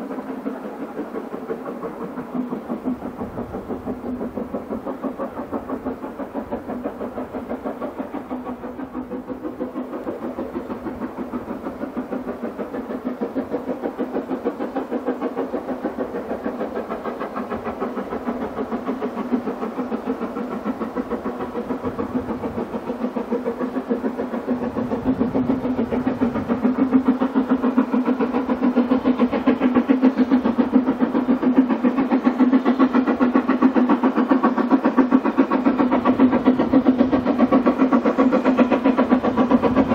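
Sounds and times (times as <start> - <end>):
steam locomotive exhaust beating: 0.0 - 39.9.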